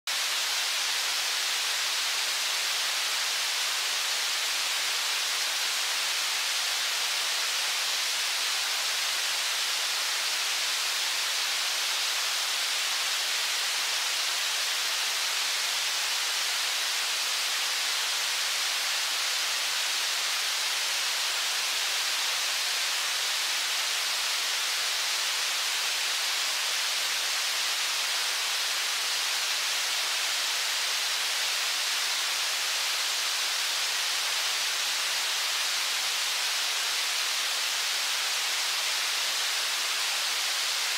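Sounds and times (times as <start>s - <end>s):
rushing water of rapids: 0.1s - 40.9s.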